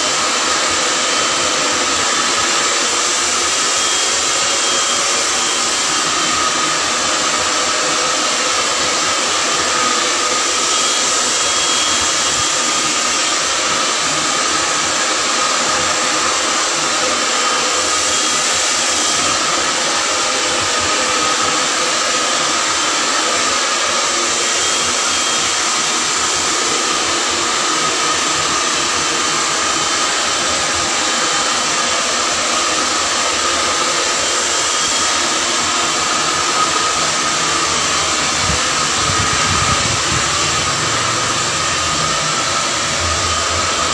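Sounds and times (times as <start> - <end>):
hair dryer blowing: 0.0 - 43.9.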